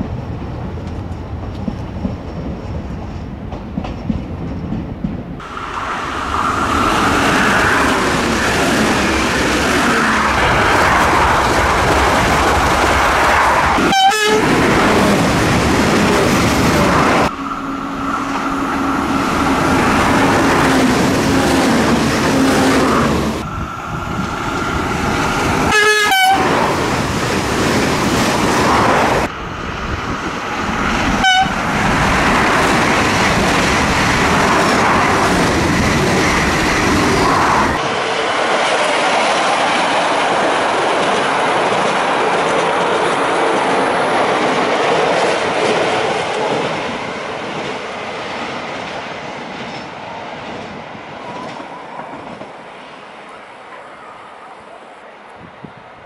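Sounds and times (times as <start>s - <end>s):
train wheels rushing on rails: 0.0s - 53.9s.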